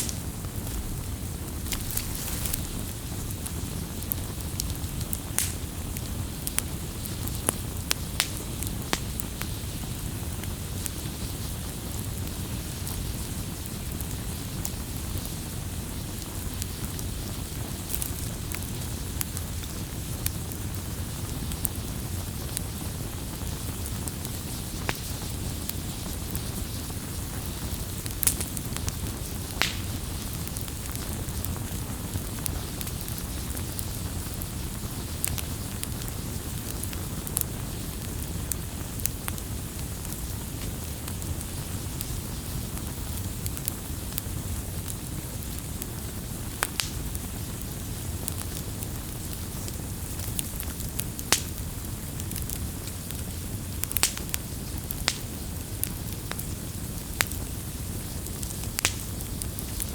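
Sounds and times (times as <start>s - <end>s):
campfire rumbling and crackling: 0.0s - 59.9s.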